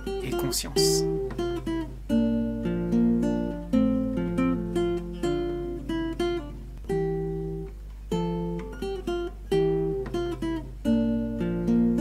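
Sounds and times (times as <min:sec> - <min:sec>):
guitar chords: 0:00.0 - 0:12.0.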